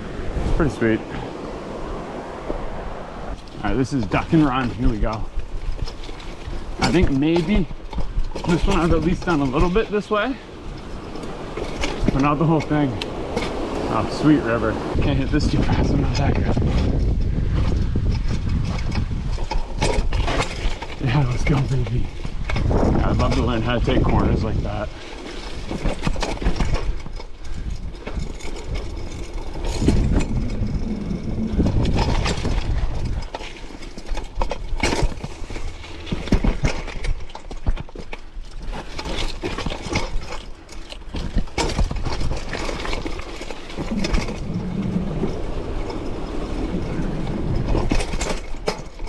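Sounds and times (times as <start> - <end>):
bike knocking and rattling: 0.0 - 49.0
bike tyres rolling on dirt: 0.0 - 49.0.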